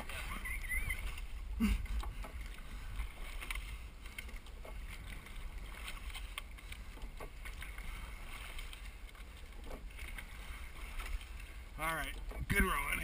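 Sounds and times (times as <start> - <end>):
oars knocking and splashing: 0.0 - 13.0.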